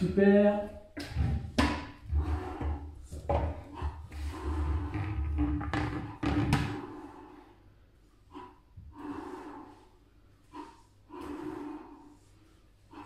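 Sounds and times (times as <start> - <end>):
people puffing effortful breaths: 1.1 - 13.0.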